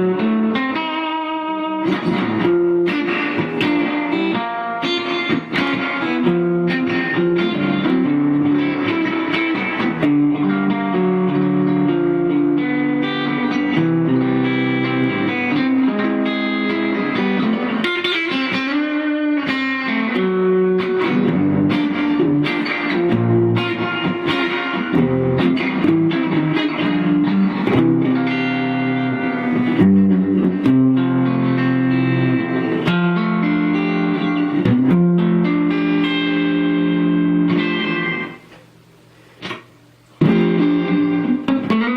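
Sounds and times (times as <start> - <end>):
electric guitar playing chords: 0.0 - 41.9.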